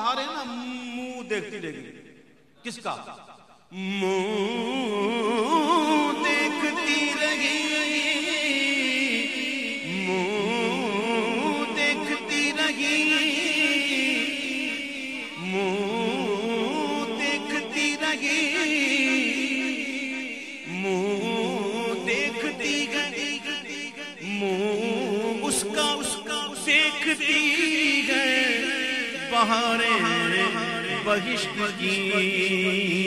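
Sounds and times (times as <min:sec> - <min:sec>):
man singing unaccompanied: 0:03.7 - 0:33.0.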